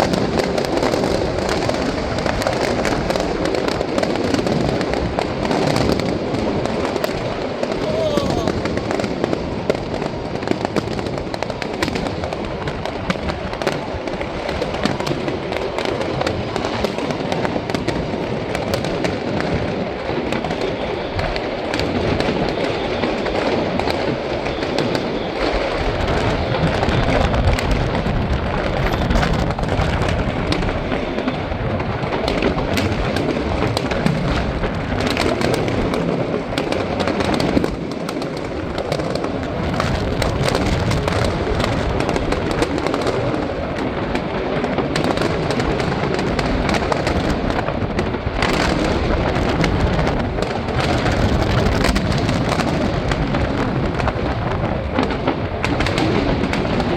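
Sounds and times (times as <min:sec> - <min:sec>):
fireworks booming and crackling: 0:00.0 - 0:56.9.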